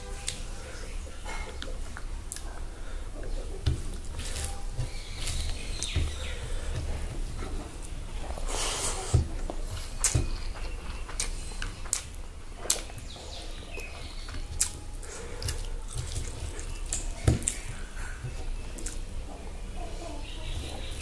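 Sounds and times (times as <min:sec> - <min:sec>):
wet eating squelches: 0:00.1 - 0:21.0.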